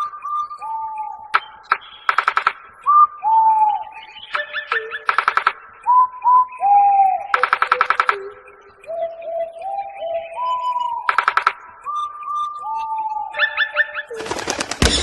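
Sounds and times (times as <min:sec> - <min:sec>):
bird whistling downward notes: 0:00.0 - 0:15.0.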